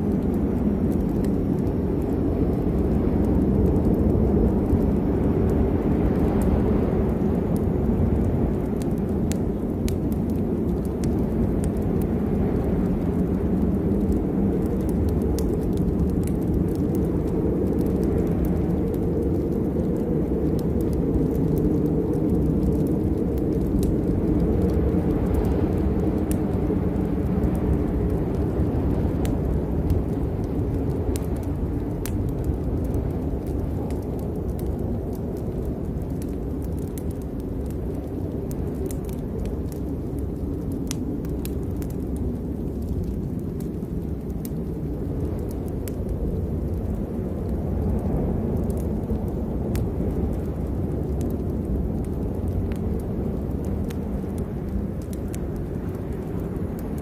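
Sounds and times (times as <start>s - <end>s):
deep continuous rumble: 0.0s - 57.0s
rain drops ticking: 0.0s - 57.0s
steady rain: 0.0s - 57.0s.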